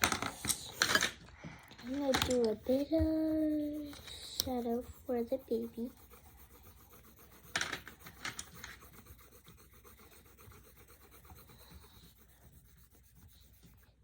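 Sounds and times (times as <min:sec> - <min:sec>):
pencil scratching on paper: 0:01.8 - 0:14.0.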